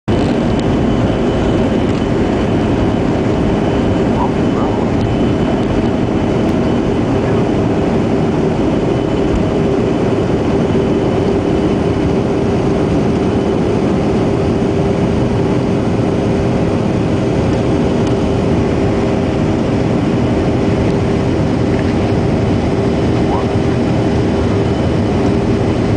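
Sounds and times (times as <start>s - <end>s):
jet engine cabin rush: 0.1s - 25.9s
steady hum: 0.1s - 25.9s.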